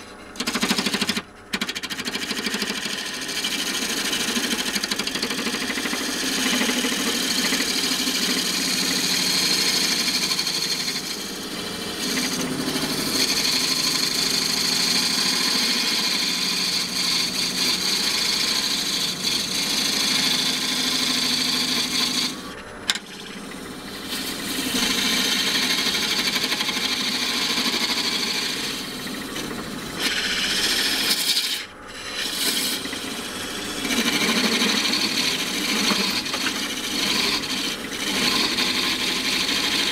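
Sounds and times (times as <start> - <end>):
lathe tool cutting wood: 0.0 - 39.9.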